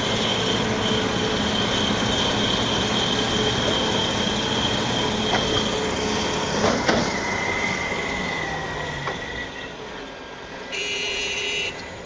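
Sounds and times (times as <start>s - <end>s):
metallic track squeals: 0.0s - 9.8s.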